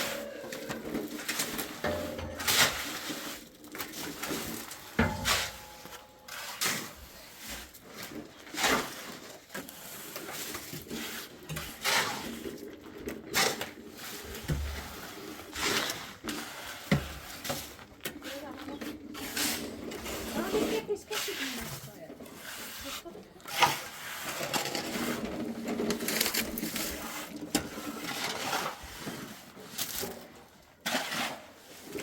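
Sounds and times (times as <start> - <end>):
hand tools scraping mortar: 0.0 - 32.0.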